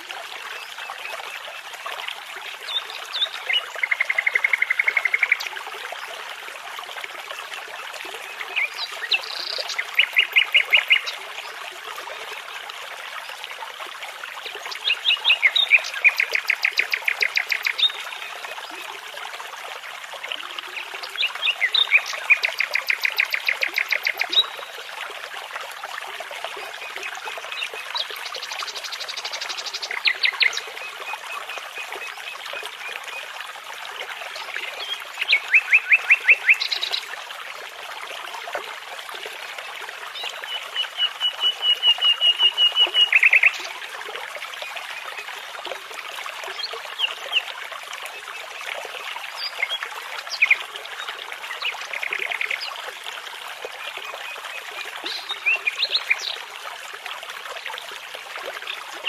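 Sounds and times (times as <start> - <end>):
babbling brook: 0.0 - 59.0.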